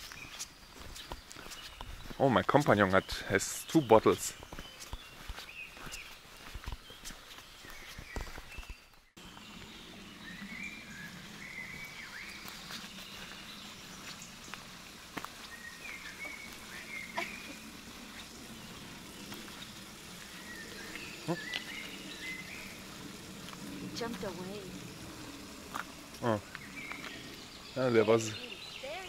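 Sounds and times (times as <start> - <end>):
birds chirping: 0.0 - 29.0
steady outdoor hiss: 0.0 - 29.0.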